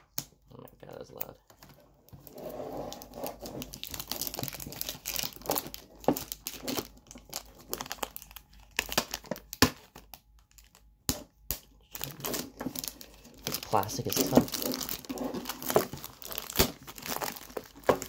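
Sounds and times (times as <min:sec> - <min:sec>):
plastic shrink wrap tearing: 0:02.2 - 0:10.8, 0:11.8 - 0:18.0.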